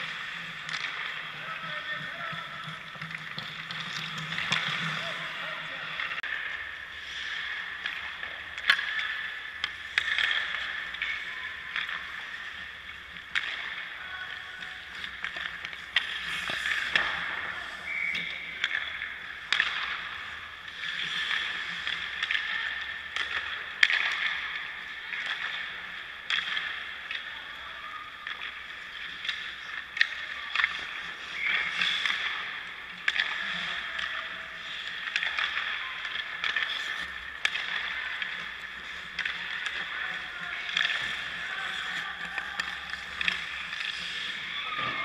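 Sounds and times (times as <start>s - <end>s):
pucks and sticks knocking: 0.0s - 6.6s, 7.7s - 24.4s, 29.2s - 45.0s
skate blades scraping ice: 0.0s - 45.0s.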